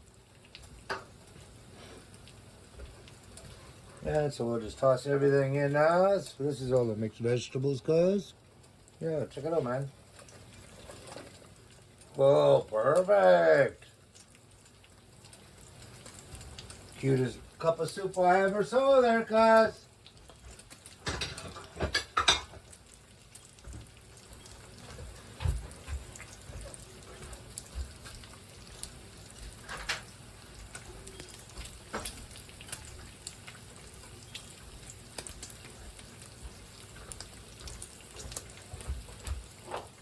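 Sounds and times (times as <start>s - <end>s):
bacon sizzling in a pan: 0.0s - 40.0s.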